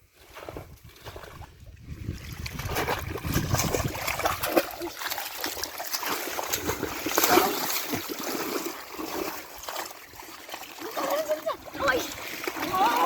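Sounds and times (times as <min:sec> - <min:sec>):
pond water splashing and trickling: 0:00.0 - 0:13.0.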